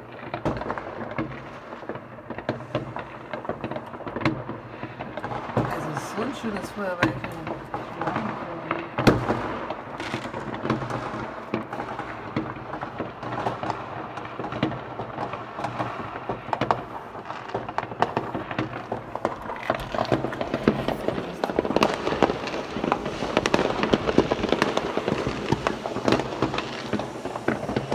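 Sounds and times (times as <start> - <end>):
fireworks and firecrackers crackling: 0.0 - 27.9.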